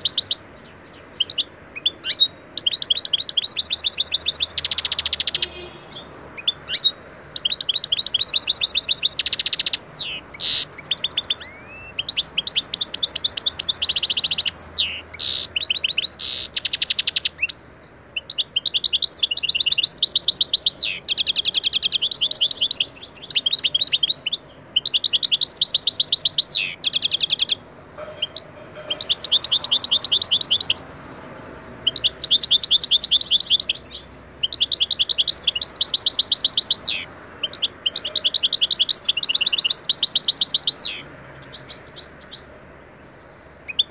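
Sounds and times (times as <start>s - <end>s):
finch singing twittering trills: 0.0s - 42.5s.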